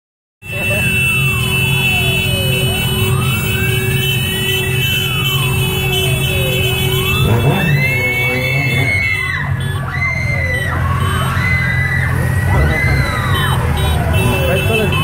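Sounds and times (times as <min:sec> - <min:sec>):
motorcycle engines running: 0:00.4 - 0:15.0
siren wailing: 0:00.5 - 0:15.0.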